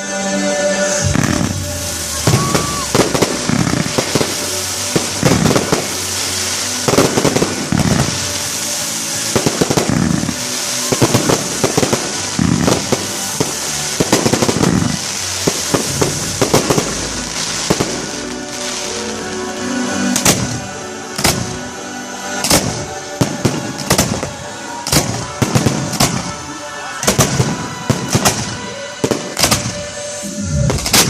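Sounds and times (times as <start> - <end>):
crackling hiss: 0.8 - 31.0
fireworks bangs: 0.9 - 21.7, 22.3 - 31.0.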